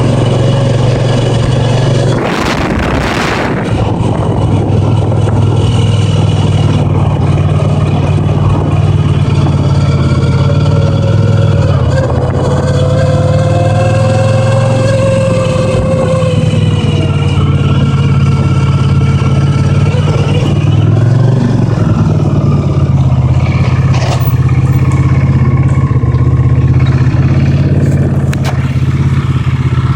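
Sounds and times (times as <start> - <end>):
motorcycle engine running: 0.0 - 29.9
speedometer whine: 0.0 - 29.9.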